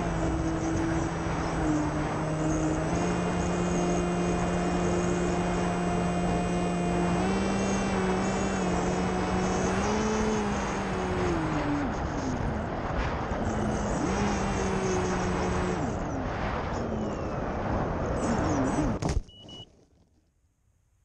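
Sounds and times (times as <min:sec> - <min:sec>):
electric motor and propeller whining: 0:00.0 - 0:19.0.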